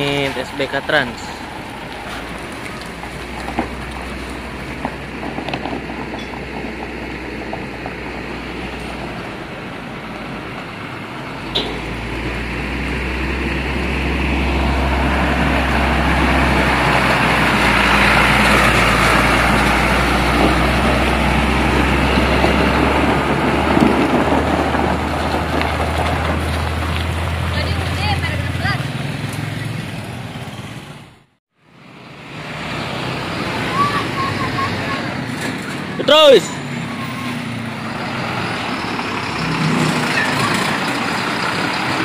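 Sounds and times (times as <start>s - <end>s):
truck driving past: 0.0s - 42.0s.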